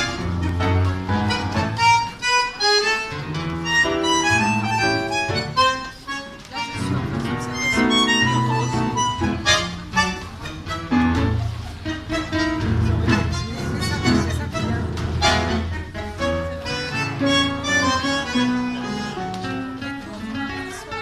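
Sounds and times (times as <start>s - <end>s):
guitar: 0.0s - 21.0s
piano bass line: 0.0s - 21.0s.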